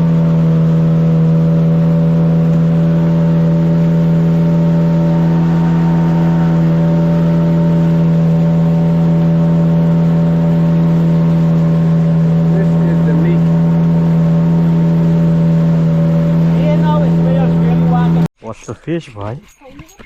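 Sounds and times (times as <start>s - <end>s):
outboard motor running: 0.0s - 18.3s.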